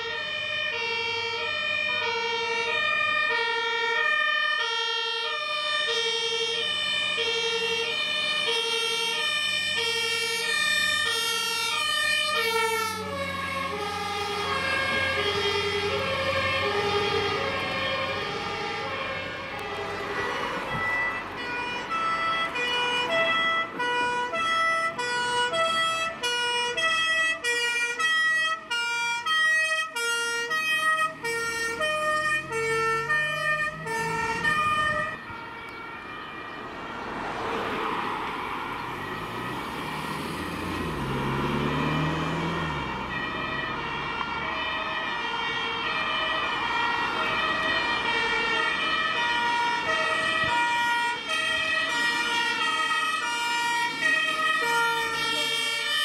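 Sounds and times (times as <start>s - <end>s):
two-tone fire engine siren: 0.0s - 56.0s
vehicle engine passing by: 6.2s - 27.3s, 30.0s - 56.0s.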